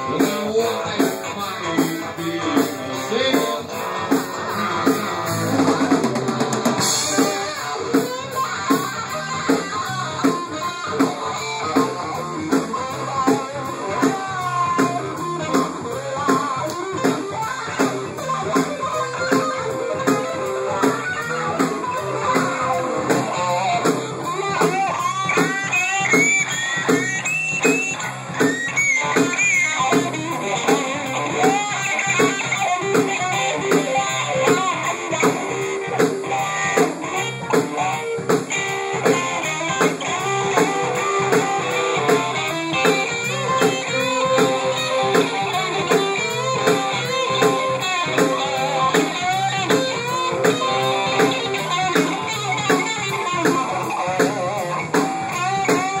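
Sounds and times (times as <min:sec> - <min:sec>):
blues band playing: 0:00.0 - 0:56.0
electric guitar lead with bent notes: 0:00.0 - 0:56.0.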